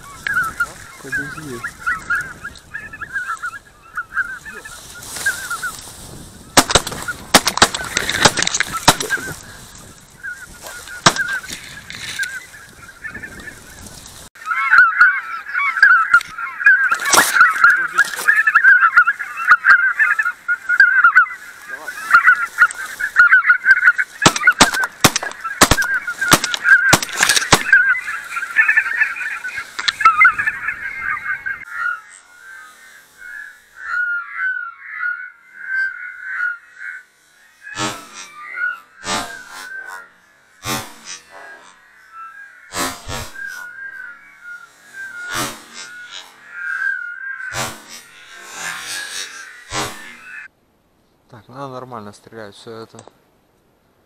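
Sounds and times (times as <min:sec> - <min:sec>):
geese honking and cackling: 0:00.0 - 0:50.5.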